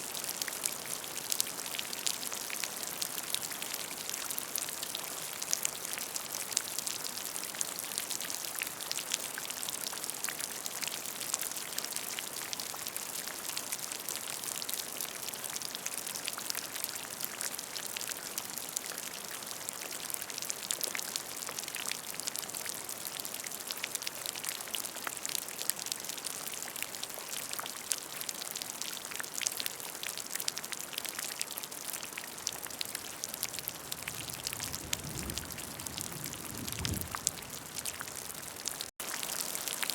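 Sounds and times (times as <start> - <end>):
rain falling on a puddle: 0.0 - 39.9.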